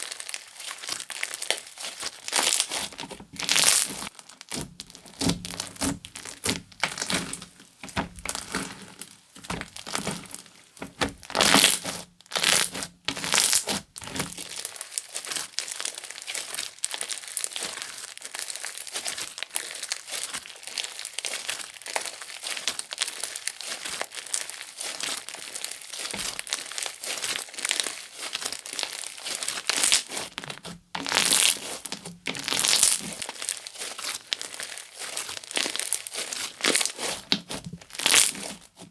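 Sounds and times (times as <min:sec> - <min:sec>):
slime squished by hand: 0:00.2 - 0:20.4, 0:23.2 - 0:38.9.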